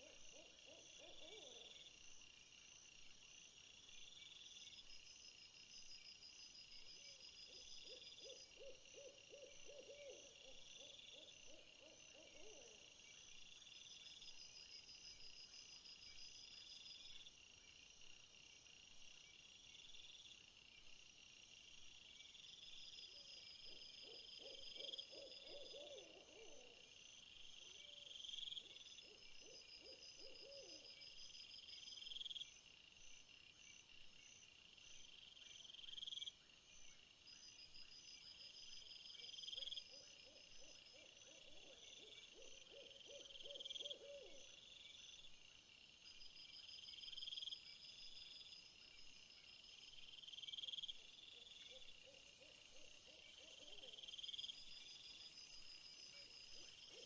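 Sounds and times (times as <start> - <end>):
insect chorus of high chirps: 0.0 - 57.0.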